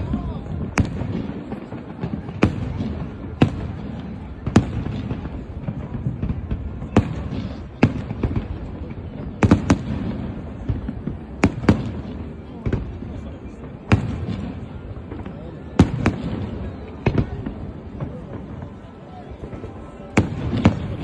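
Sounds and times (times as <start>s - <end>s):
fireworks crackle and rumble: 0.0s - 21.0s.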